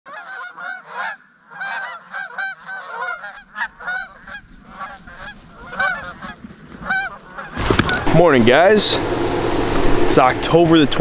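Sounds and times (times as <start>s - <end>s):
geese honking in flight: 0.1s - 10.6s.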